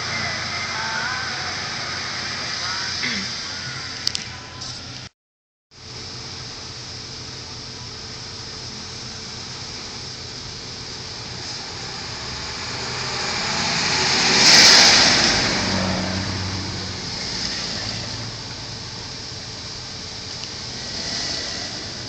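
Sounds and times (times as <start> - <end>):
vehicle engine and tyre noise: 0.0 - 5.1, 5.8 - 22.0.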